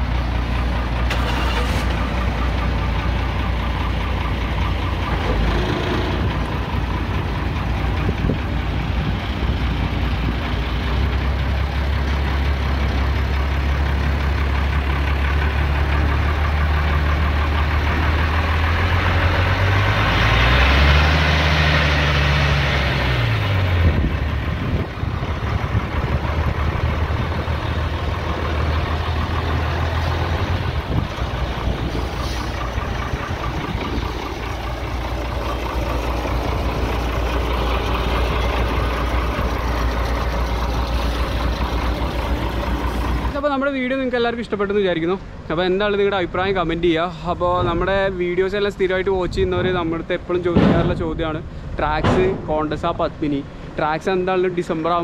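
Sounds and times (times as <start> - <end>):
diesel truck engine idling and revving: 0.0 - 55.0.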